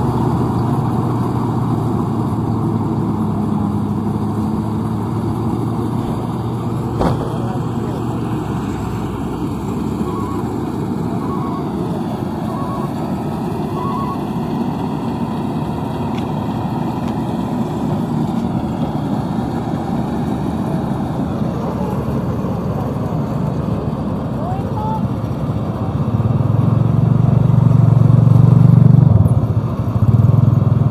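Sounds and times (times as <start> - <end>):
combine harvester droning: 0.0 - 30.9.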